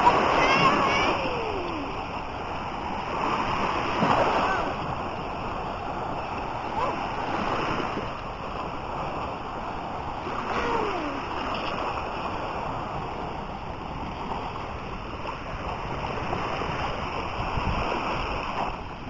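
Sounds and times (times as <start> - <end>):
sea waves washing onto beach: 0.0 - 19.0.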